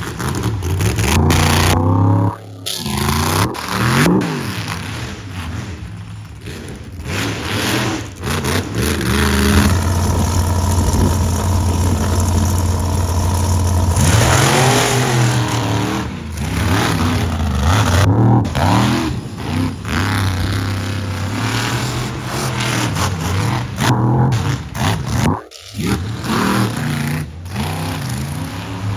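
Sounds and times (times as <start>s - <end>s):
monster truck engine revving: 0.0s - 28.9s.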